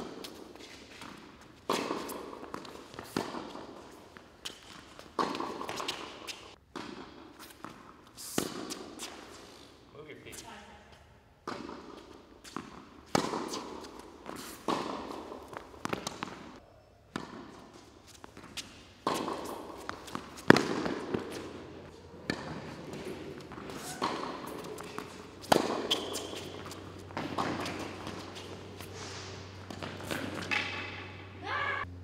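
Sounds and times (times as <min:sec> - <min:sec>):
tennis ball bounces: 0:00.0 - 0:09.3, 0:11.4 - 0:31.6
tennis racquet hits: 0:00.0 - 0:09.4, 0:10.9 - 0:31.6.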